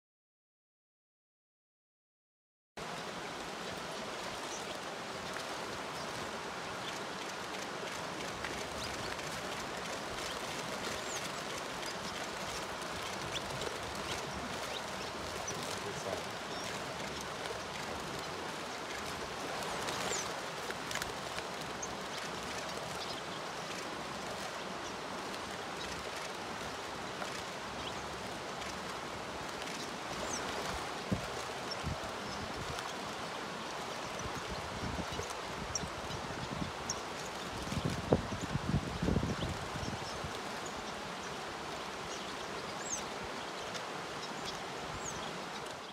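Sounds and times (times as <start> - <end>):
even rushing outdoor noise: 2.8 - 45.9.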